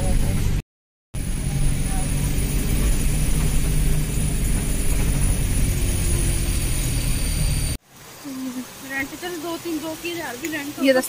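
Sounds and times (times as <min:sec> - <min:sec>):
bus engine and road drone: 0:00.0 - 0:00.6, 0:01.2 - 0:09.6.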